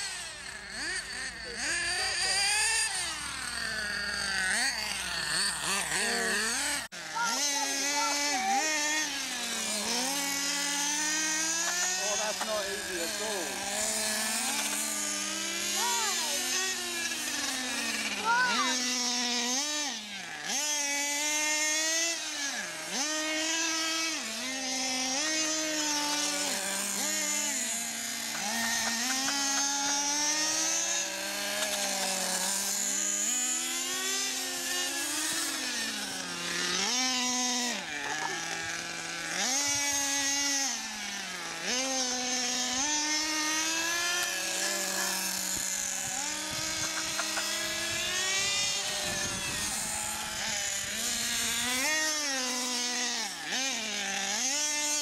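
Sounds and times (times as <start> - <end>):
toy motorcycle motor revving: 0.0 - 55.0.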